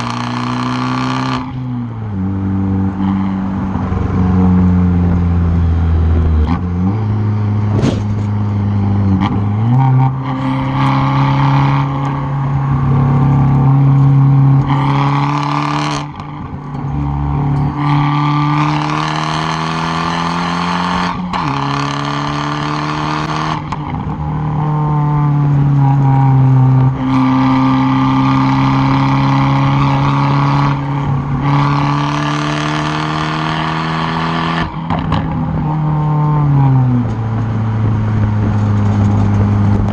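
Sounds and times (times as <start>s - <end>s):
car exhaust under hard acceleration: 0.0s - 39.9s.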